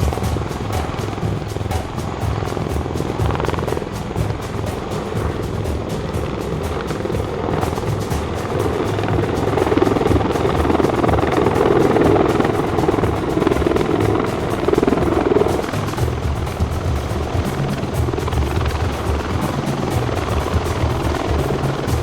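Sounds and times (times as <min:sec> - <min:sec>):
background music: 0:00.0 - 0:22.0
helicopter rotor chop: 0:00.0 - 0:22.0.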